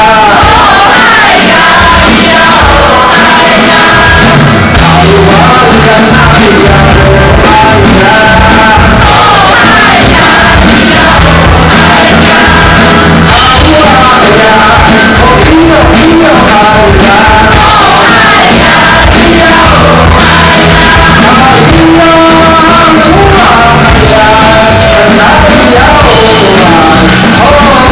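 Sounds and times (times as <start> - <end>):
man singing into microphone: 0.0 - 27.9.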